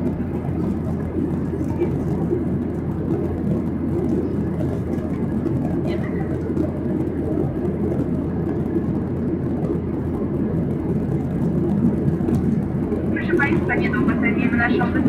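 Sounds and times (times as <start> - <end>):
airflow over fuselage: 0.0 - 15.0
jet engine drone in cabin: 0.0 - 15.0.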